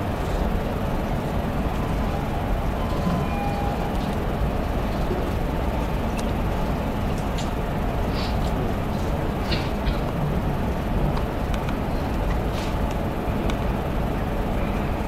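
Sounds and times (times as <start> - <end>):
low rumbling room noise: 0.0 - 15.0.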